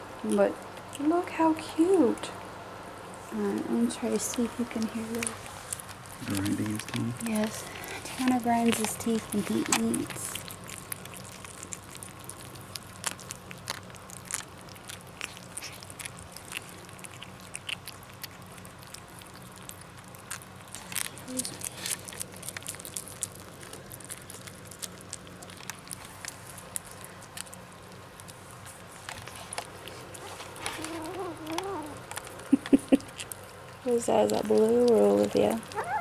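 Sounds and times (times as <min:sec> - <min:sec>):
kittens chewing food: 0:00.0 - 0:36.0
kitten grinding teeth: 0:04.2 - 0:36.0.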